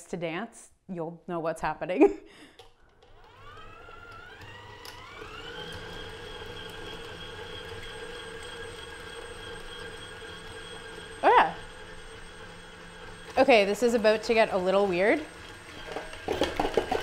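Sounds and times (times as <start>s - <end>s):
stand mixer motor whining: 2.9s - 17.0s.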